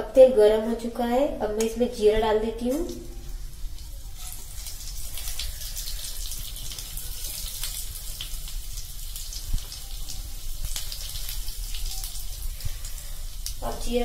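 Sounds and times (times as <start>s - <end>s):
seeds sizzling in hot oil: 1.6s - 14.0s.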